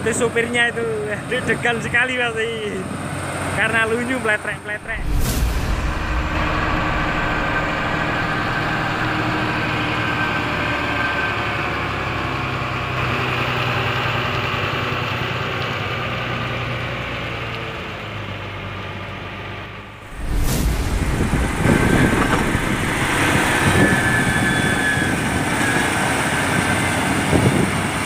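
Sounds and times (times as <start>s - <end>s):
heavy truck engine running: 4.8s - 28.0s.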